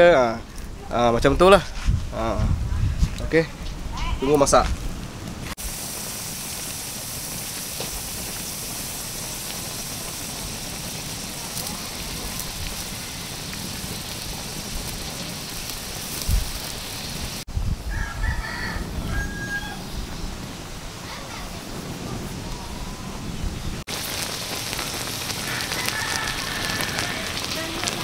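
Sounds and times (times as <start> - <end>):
wood fire hissing and crackling: 0.0 - 28.0.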